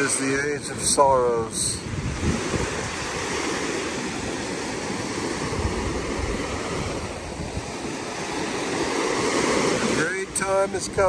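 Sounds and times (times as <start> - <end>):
surf washing up beach: 0.0 - 11.0
wind rumbling on microphone: 0.0 - 11.0.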